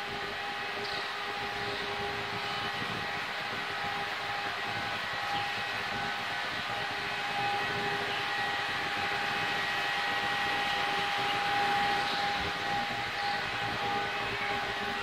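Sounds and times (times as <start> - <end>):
constant rushing noise: 0.0 - 15.0
mechanical hum with held tones: 0.0 - 15.0.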